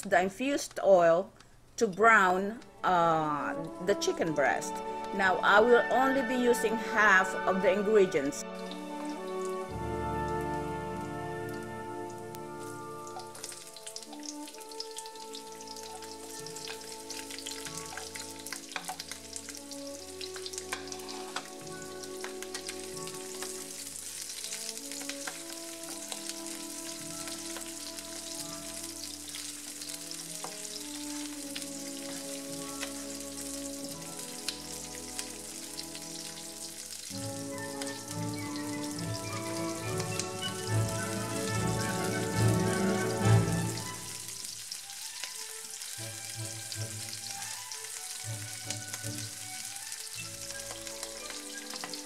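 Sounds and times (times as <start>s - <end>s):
vegetables sizzling in hot oil: 1.6s - 52.0s
soft instrumental music: 2.6s - 52.0s.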